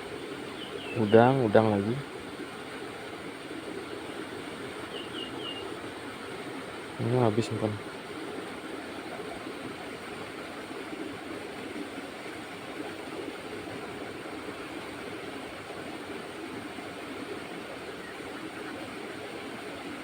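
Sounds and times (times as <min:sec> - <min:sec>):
water rushing in channel: 0:00.0 - 0:20.0.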